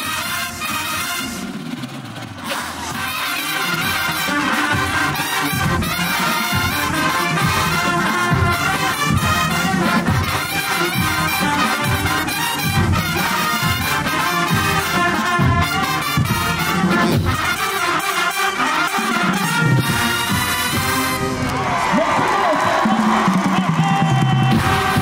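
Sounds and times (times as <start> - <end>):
marching band brass playing: 0.0 - 25.0.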